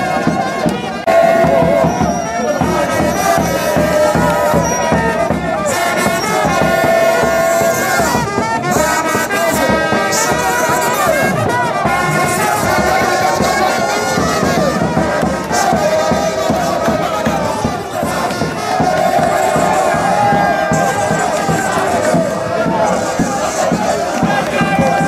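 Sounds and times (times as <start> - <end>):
brass band playing: 0.0 - 25.0
crowd noise: 0.0 - 25.0.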